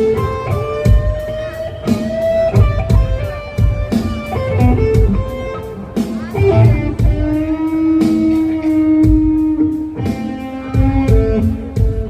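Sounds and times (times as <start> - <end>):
electric guitar blues licks: 0.0 - 12.0
low beat: 0.0 - 12.0.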